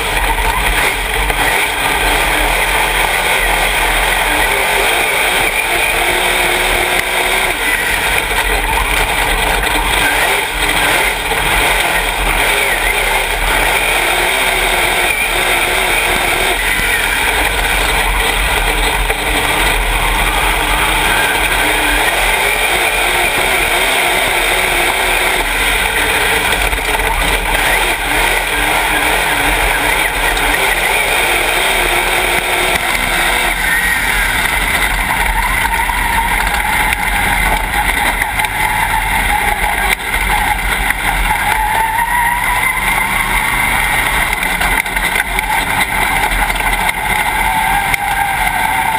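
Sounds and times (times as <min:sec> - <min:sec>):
race car engine at speed: 0:00.0 - 0:48.9.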